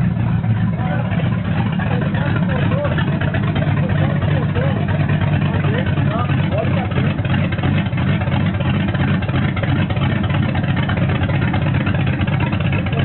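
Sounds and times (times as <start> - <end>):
car engine deep rumble: 0.0 - 13.0.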